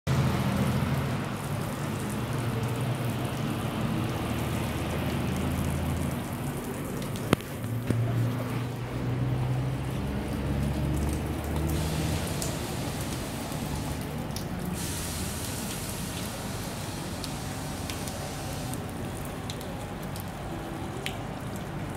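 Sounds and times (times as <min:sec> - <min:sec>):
water spraying on window glass: 0:00.1 - 0:21.9.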